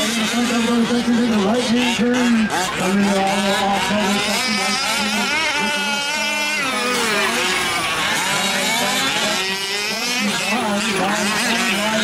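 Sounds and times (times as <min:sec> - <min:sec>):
small two-stroke engines whining: 0:00.0 - 0:12.0.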